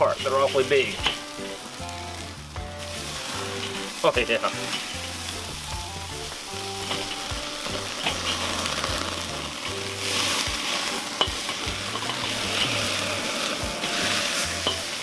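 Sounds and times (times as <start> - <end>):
meat sizzling on a grill: 0.0 - 15.0
sharp crackling pops: 0.0 - 15.0.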